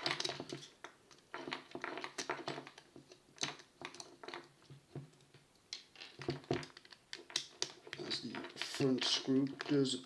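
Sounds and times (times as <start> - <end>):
small clicks and taps of hand work: 0.0 - 9.9.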